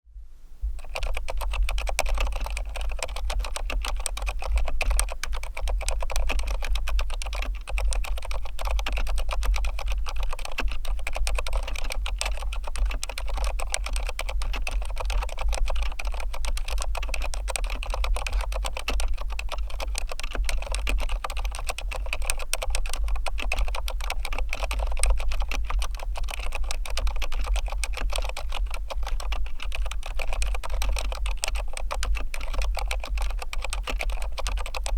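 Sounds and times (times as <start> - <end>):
fast typing on mechanical keyboard: 0.8 - 34.9.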